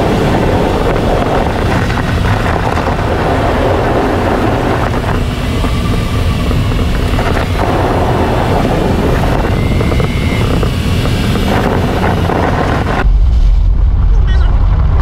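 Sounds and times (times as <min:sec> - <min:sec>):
off-road vehicle engine and tyres: 0:00.0 - 0:15.0.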